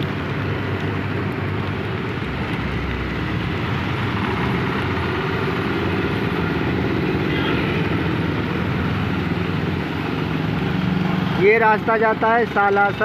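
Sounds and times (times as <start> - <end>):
tyres hissing on wet road: 0.0 - 13.0
vehicle engine drone: 0.0 - 13.0.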